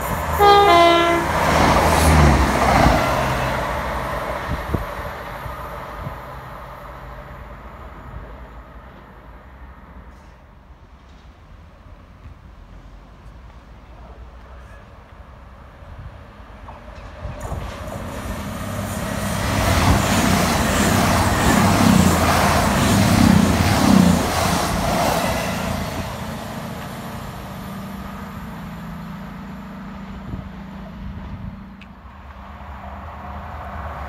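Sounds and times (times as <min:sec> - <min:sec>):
train engines passing: 0:00.0 - 0:34.0
wheels rumbling on rail: 0:00.0 - 0:34.0.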